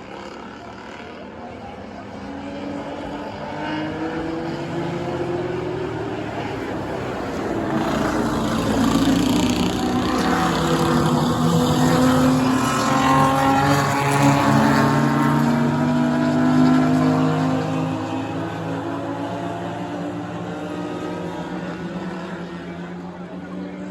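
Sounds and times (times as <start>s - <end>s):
racing car engines: 0.0s - 23.9s.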